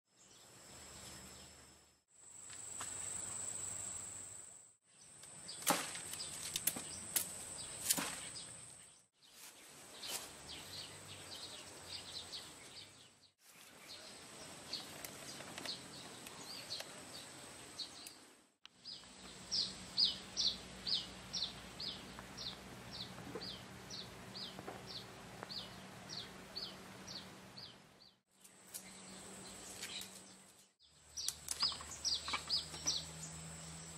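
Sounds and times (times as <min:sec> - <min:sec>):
bird chirping: 0:04.9 - 0:33.9.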